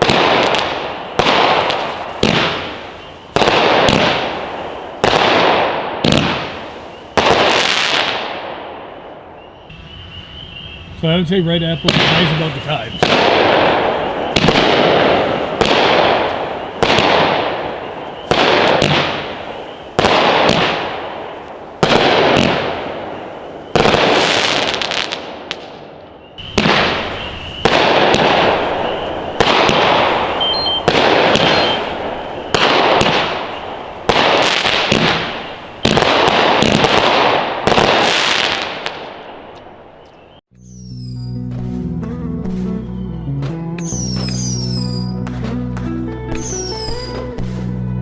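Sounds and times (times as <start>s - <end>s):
firework shots echoing: 0.0s - 10.0s, 11.2s - 41.0s.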